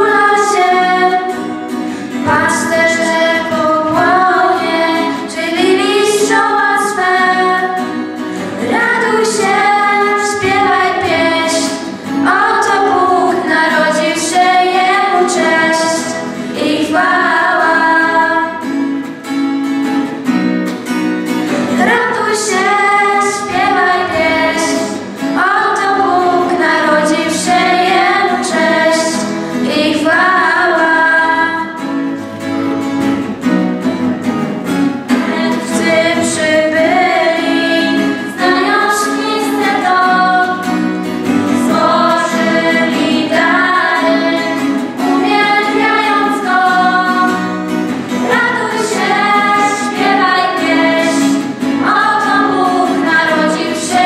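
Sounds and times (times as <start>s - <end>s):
youth choir singing a carol: 0.0s - 19.0s, 21.7s - 32.0s, 35.1s - 54.0s
instrumental accompaniment: 0.0s - 54.0s.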